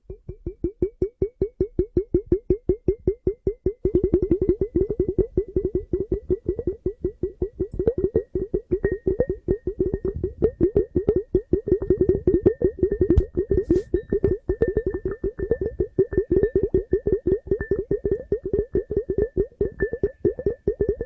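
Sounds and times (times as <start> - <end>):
faint steady ringing tone: 0.0 - 21.0.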